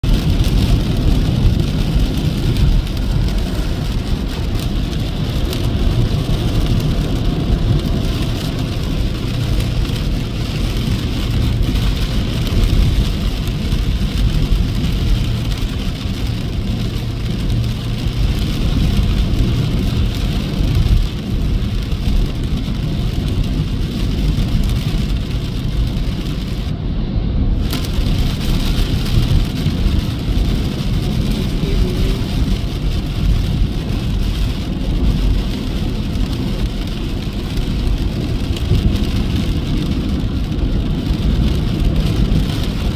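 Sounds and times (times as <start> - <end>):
rain hissing on wet road: 0.0 - 42.9
tyre and engine rumble: 0.0 - 42.9.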